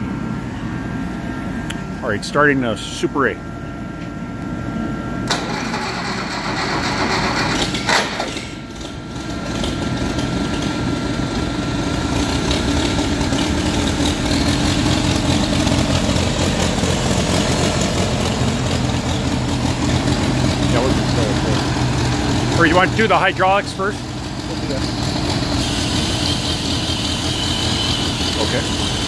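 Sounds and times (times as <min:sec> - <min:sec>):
tractor engine starting and idling: 0:05.2 - 0:29.0.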